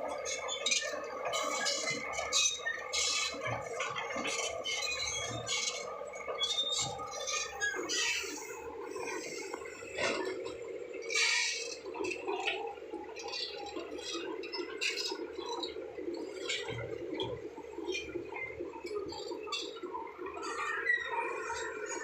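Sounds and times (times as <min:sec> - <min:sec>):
bulldozer engine drone: 0:00.0 - 0:22.0.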